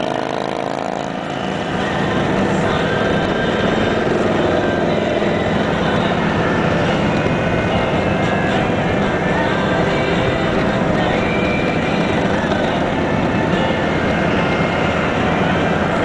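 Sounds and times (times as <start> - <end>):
motorcycle engines droning: 0.0 - 16.0
road noise: 0.0 - 16.0.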